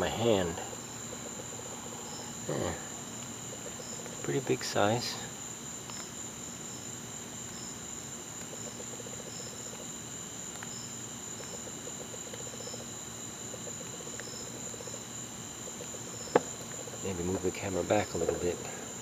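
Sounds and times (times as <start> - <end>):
cricket chirps: 0.0 - 19.0
crickets high-pitched trill: 0.0 - 19.0.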